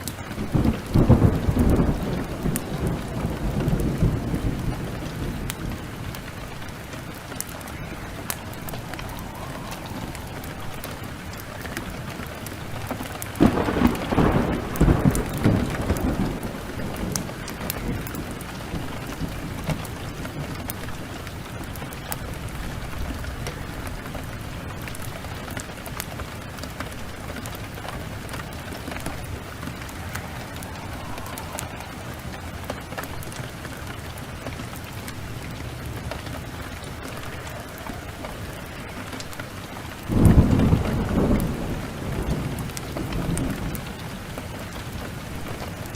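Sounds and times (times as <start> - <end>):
heavy rain: 0.0 - 45.9
thunder rolling: 0.0 - 45.9.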